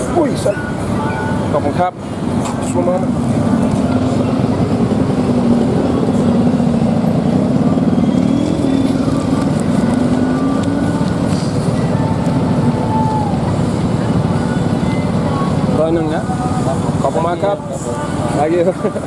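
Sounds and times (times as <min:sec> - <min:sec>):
street traffic: 0:00.0 - 0:19.0
motor engine running: 0:02.1 - 0:18.2.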